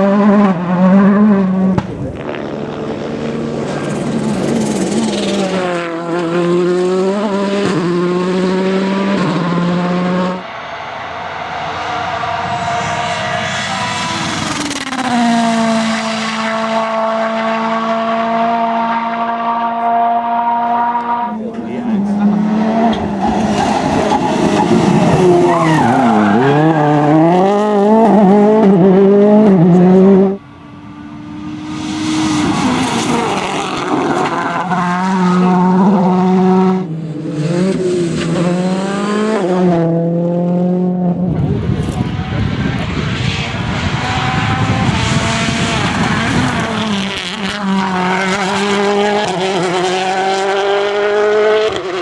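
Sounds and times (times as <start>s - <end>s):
car engine at high revs: 0.0s - 52.0s.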